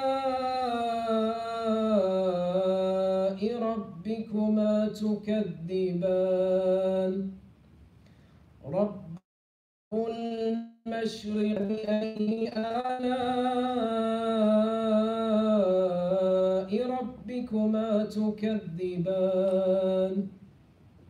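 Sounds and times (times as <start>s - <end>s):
man chanting a recitation: 0.0s - 7.4s, 8.6s - 9.2s, 9.9s - 20.3s.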